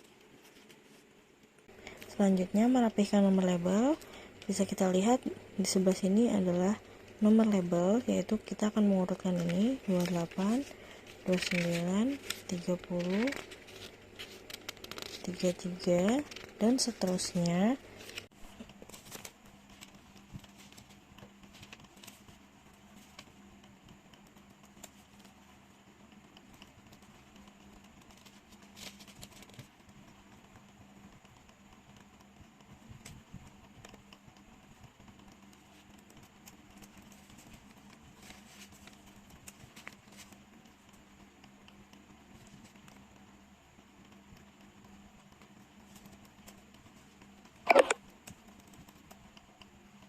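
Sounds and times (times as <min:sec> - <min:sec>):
steady low hum: 0:00.0 - 0:50.0
paper labels tapping and rustling: 0:01.6 - 0:25.4, 0:26.1 - 0:43.0.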